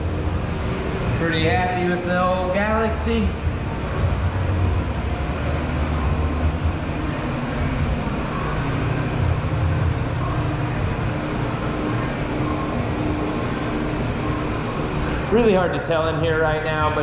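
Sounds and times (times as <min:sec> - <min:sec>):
faint steady hum: 0:00.0 - 0:17.0
ventilation fans running: 0:00.0 - 0:17.0.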